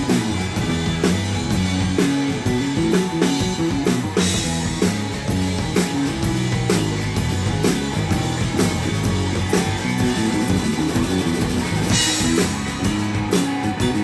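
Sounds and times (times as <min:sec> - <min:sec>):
bass guitar: 0:00.0 - 0:14.0
drum kit steady beat: 0:00.0 - 0:14.0
electric guitar chords: 0:00.0 - 0:14.0.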